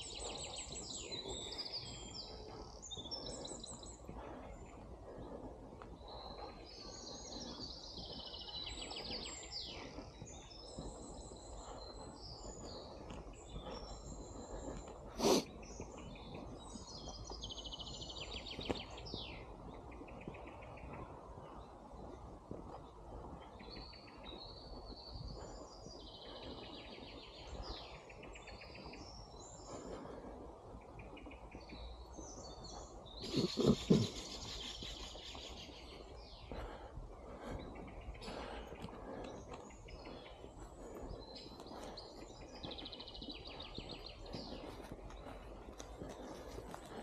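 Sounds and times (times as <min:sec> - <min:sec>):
songbirds chirping and trilling: 0:00.0 - 0:47.0.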